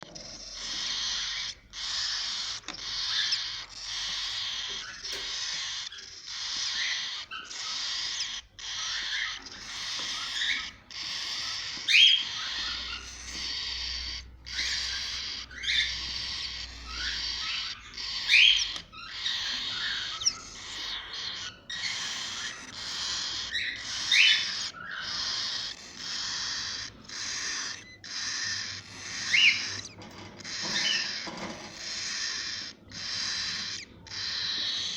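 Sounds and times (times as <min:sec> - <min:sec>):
chicks giving raspy hissing calls: 0:00.0 - 0:34.9.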